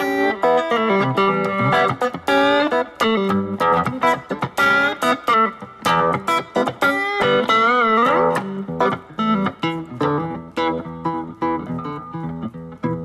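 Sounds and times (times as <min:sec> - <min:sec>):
plucked guitar notes: 0:00.0 - 0:13.0.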